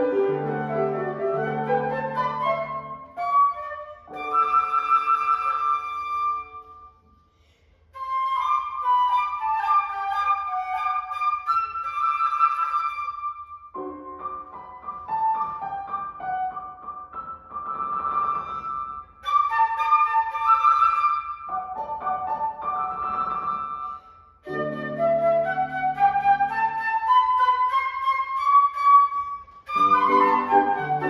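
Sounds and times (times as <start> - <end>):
piano accompaniment: 0.0 - 7.0, 8.0 - 31.0
flute melody with trills: 0.0 - 7.1, 8.0 - 31.0.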